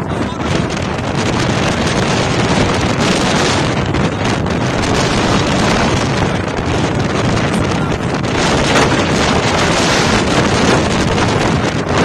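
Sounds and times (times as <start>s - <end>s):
blizzard wind blowing on microphone: 0.0s - 12.0s.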